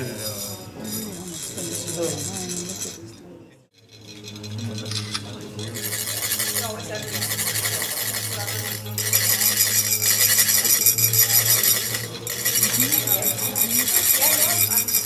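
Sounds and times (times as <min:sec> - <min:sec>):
metallic scraping: 0:00.0 - 0:15.0.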